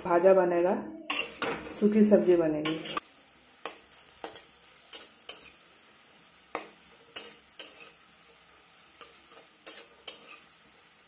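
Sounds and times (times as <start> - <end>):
oil sizzling: 0.0 - 11.0
metal spatula scraping a pan: 0.6 - 2.0, 2.6 - 3.0, 3.6 - 11.0.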